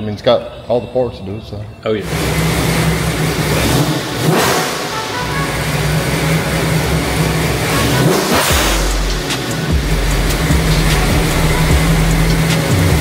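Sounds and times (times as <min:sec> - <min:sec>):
engine revving: 0:02.0 - 0:13.0
car engine choppy idle: 0:02.1 - 0:13.0.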